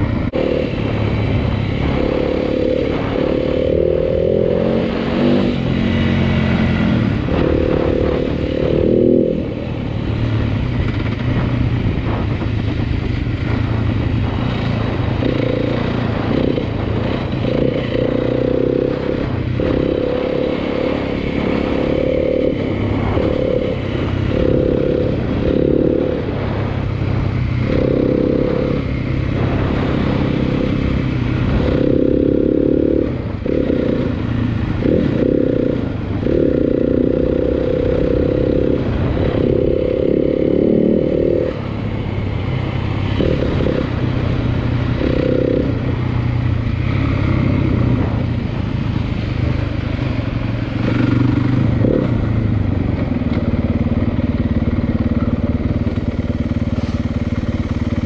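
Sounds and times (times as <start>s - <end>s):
dirt bike engine revving: 0.0s - 9.8s, 13.1s - 52.3s.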